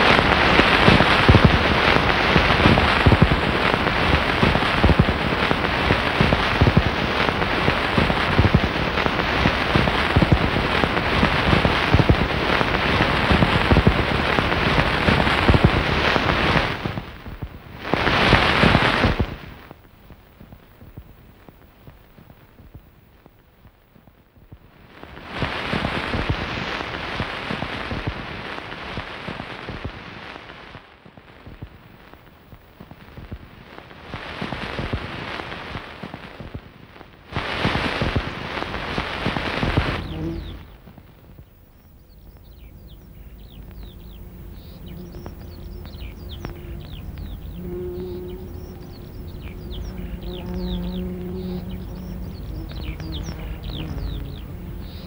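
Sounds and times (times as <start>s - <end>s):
dense crackling hissing noise: 0.0s - 55.0s.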